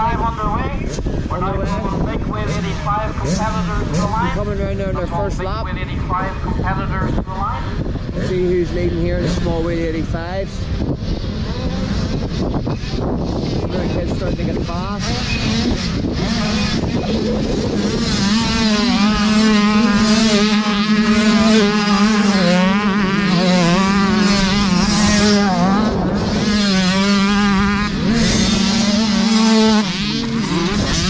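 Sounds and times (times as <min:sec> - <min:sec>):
motocross bike engines revving: 0:00.0 - 0:31.0.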